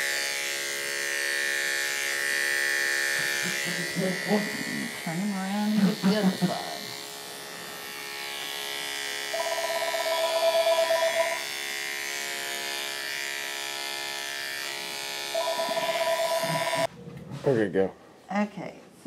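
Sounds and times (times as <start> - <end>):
electric clippers buzzing: 0.0 - 16.9.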